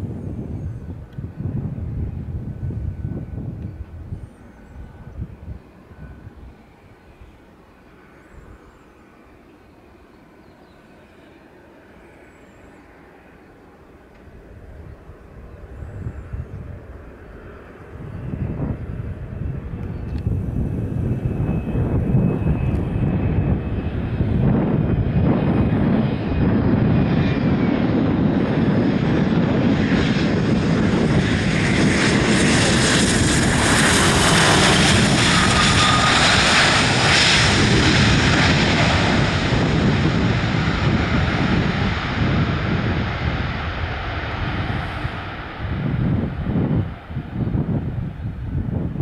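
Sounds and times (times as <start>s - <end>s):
jet landing and rolling out: 0.0s - 49.0s.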